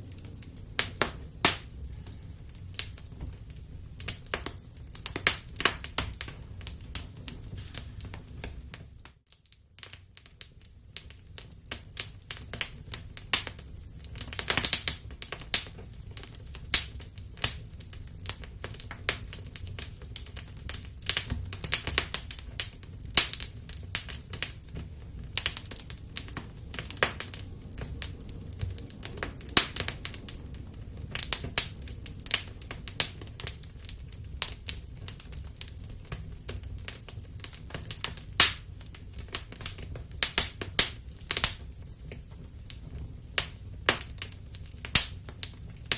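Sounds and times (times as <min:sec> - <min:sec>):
fire crackling and popping: 0:00.0 - 0:45.9
low fire rumble: 0:00.0 - 0:45.9.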